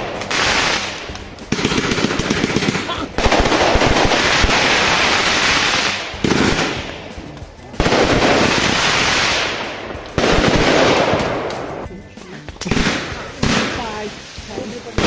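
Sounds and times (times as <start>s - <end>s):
fireworks bursting with crackle: 0.0s - 11.9s, 12.5s - 15.0s.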